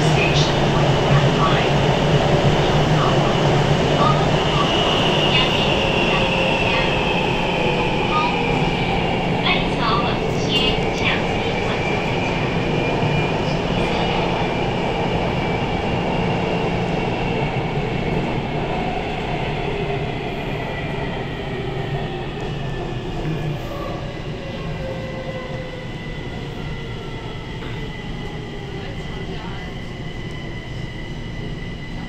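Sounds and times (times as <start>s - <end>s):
train rumbling with faint whine: 0.0s - 32.0s.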